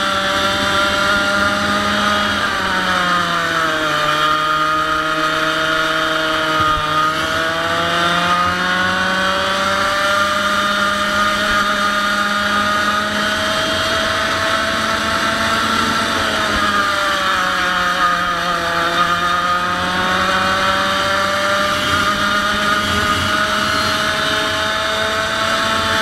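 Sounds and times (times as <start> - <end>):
kart engine running hard: 0.0 - 26.0.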